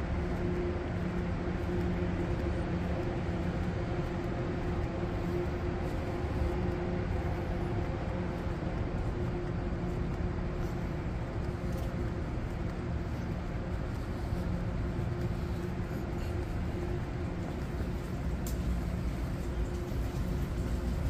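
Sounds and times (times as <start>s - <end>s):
constant drone: 0.0s - 21.0s
mechanical hum: 0.0s - 21.0s.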